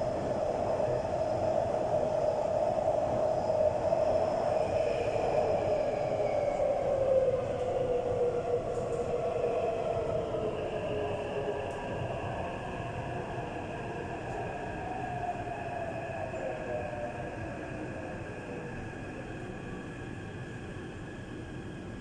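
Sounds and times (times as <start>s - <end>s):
train rumbling in a tunnel: 0.0s - 22.0s.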